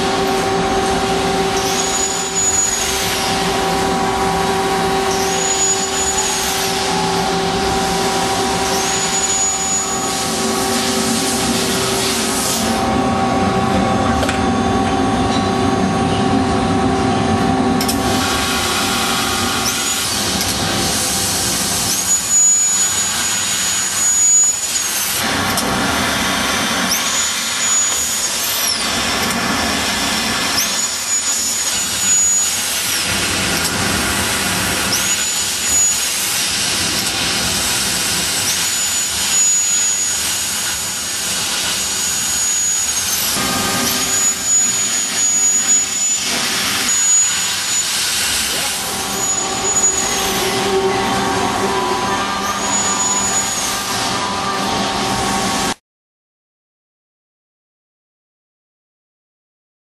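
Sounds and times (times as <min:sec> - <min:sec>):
high machine whine: 0:00.0 - 0:55.8
laser cutter rushing noise: 0:00.0 - 0:55.8.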